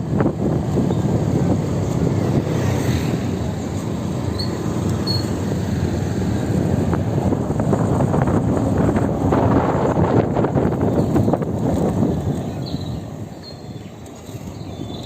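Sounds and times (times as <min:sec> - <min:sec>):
motorbike road rumble: 0:00.0 - 0:15.0
wind buffeting microphone: 0:00.0 - 0:15.0.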